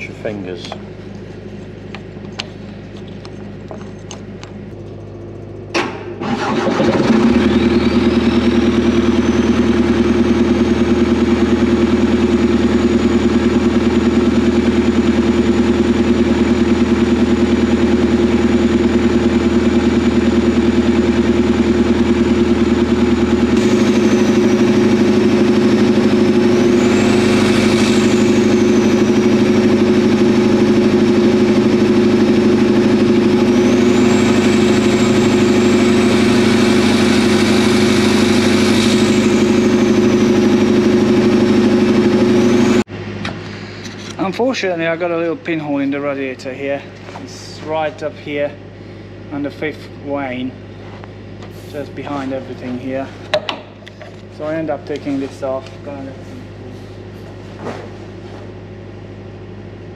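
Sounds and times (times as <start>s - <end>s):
diesel engine starting and running: 0.0s - 59.9s
high engine whine: 0.0s - 59.9s.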